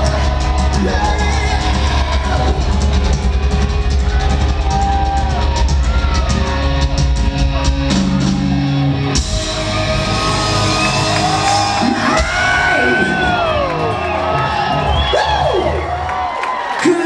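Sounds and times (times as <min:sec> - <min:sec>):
guitar sliding wails: 0:00.0 - 0:07.0, 0:07.6 - 0:16.0
live rock band playing: 0:00.0 - 0:16.1.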